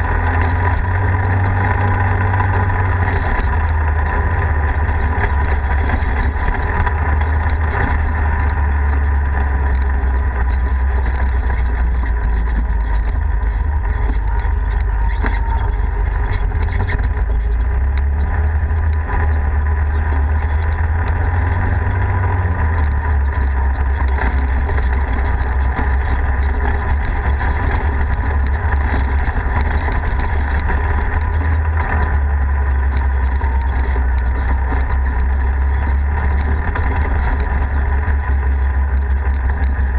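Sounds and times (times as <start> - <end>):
off-road vehicle engine droning: 0.0 - 39.9.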